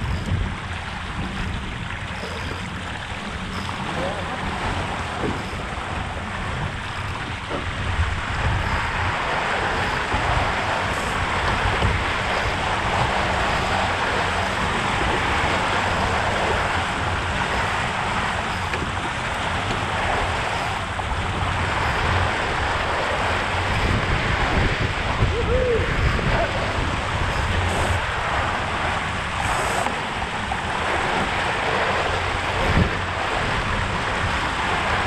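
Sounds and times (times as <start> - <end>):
water rushing along a hull: 0.0 - 35.0
wind rumble on microphone: 0.0 - 35.0.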